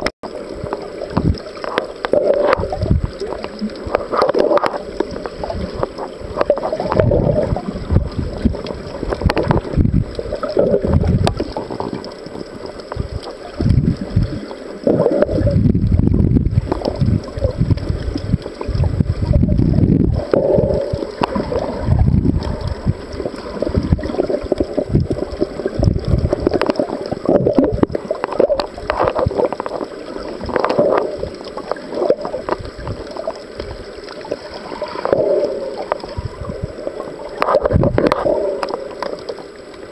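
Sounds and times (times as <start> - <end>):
underwater water surging and gurgling: 0.0 - 39.9.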